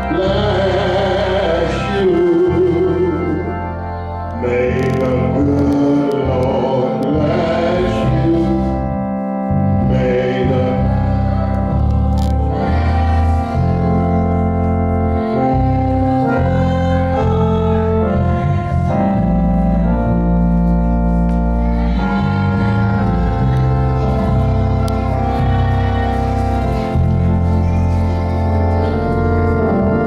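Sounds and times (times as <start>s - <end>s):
deep bass line: 0.0s - 30.0s
organ chords: 0.0s - 30.0s.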